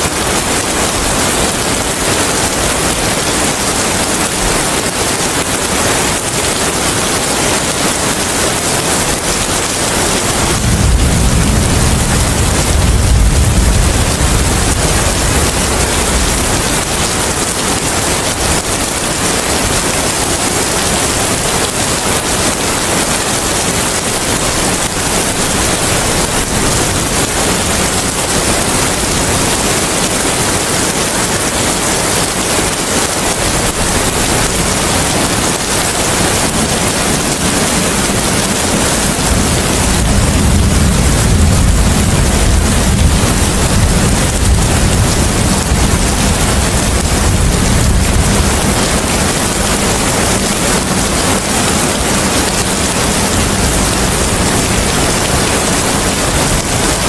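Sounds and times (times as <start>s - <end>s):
steady rain: 0.0s - 57.0s
wind rumble: 0.0s - 57.0s.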